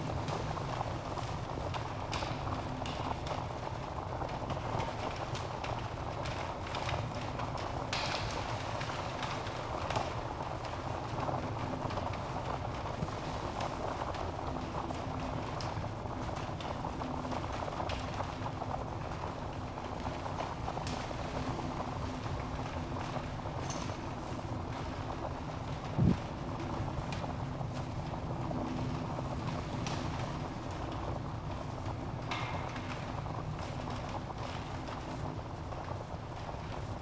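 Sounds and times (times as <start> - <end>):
logs crackling and popping: 4.2 - 37.0.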